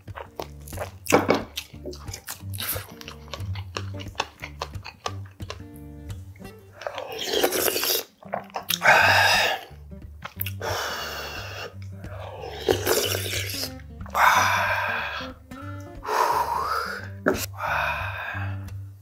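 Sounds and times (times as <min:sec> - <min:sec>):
background music with bass: 0:00.0 - 0:19.0
person slurping broth: 0:00.2 - 0:05.6, 0:06.7 - 0:18.7.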